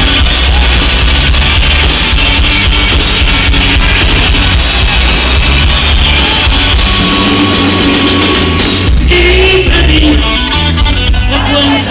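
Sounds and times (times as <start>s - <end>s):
rock band playing live: 0.0s - 11.9s.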